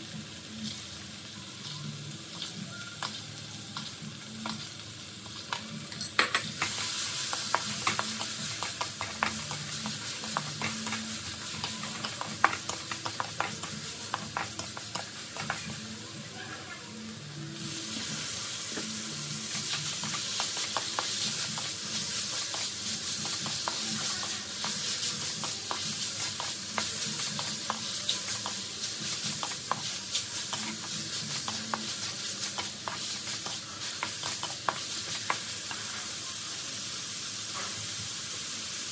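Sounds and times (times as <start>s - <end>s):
stir-fry sizzling in wok: 0.0s - 38.9s.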